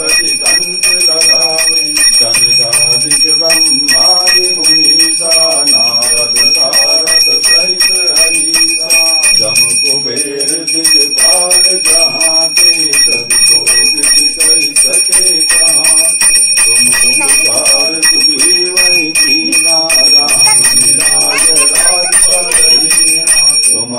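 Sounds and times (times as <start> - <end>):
hand bell ringing rapidly: 0.0 - 23.9
person chanting: 0.0 - 23.9.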